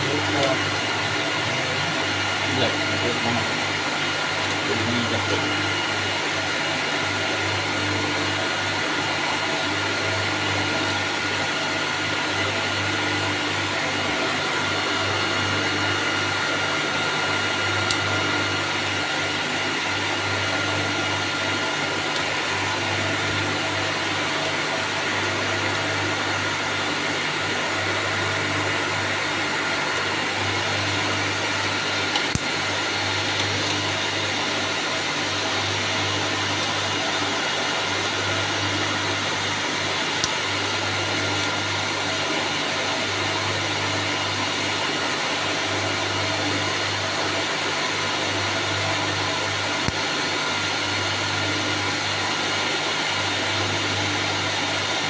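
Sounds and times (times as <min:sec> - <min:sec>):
server cooling fans whirring: 0:00.0 - 0:55.0.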